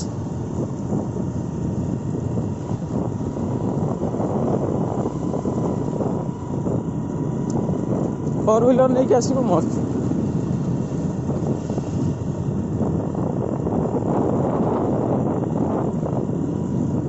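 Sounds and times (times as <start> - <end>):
motorcycle engine running: 0.0 - 17.0
road noise: 0.0 - 17.0
wind on microphone: 0.0 - 17.0.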